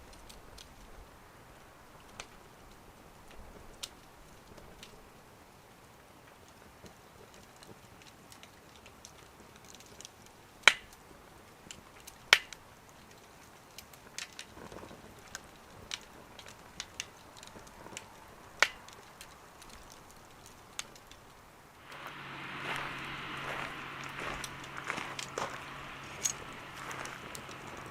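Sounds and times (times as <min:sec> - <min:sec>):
steady noise with low hum: 0:00.0 - 0:27.9
wood fire crackling: 0:00.0 - 0:27.9.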